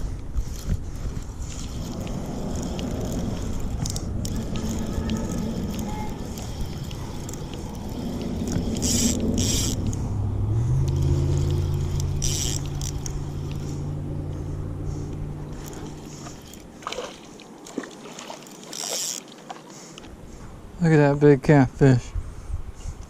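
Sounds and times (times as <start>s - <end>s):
passing engine humming: 0.0s - 20.8s.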